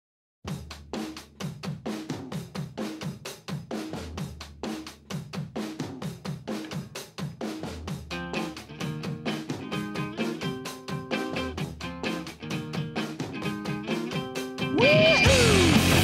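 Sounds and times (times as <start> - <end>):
rock drum beat: 0.5 - 16.0.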